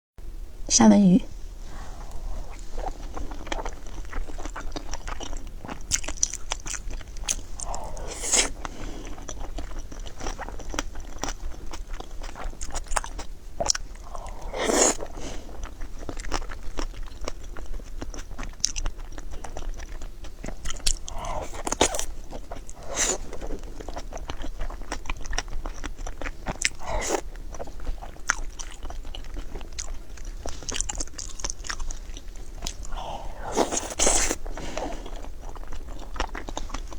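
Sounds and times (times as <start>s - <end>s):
crunchy bites and chewing: 2.0s - 36.9s.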